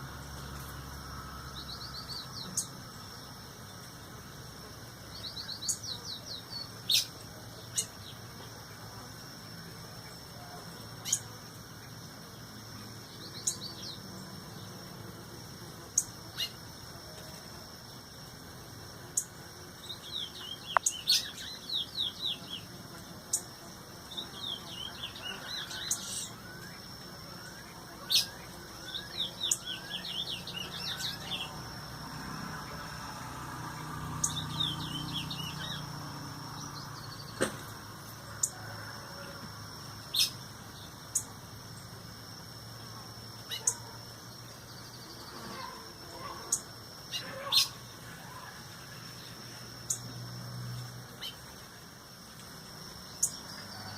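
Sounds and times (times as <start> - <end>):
songbird chirping: 0.0 - 53.9.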